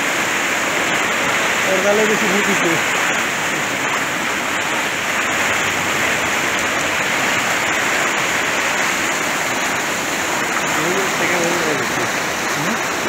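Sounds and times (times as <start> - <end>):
flood water rushing under bridge: 0.0 - 13.0.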